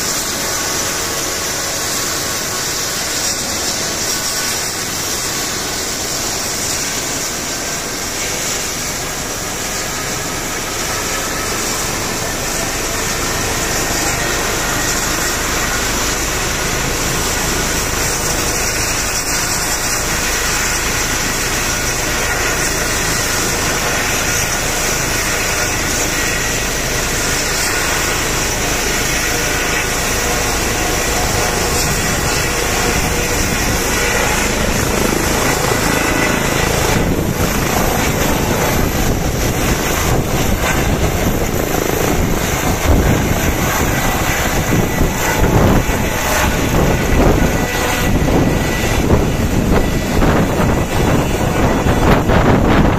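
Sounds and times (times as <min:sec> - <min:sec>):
helicopter engines and rotor whine: 0:00.0 - 0:52.9
rotor wash buffeting microphone: 0:00.0 - 0:52.9.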